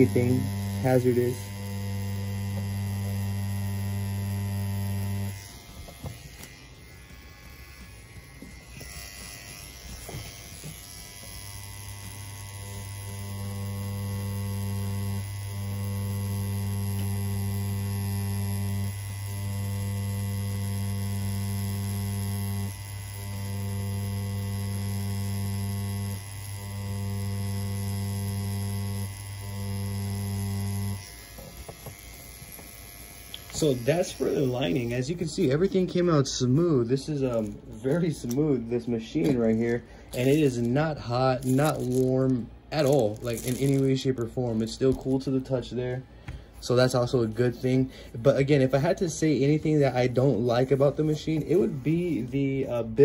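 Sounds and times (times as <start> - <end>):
tattoo machine humming: 0.0 - 53.0.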